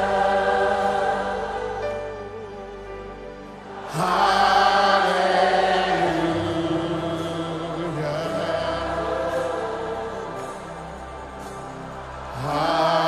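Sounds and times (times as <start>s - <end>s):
gospel worship singing: 0.0s - 13.0s.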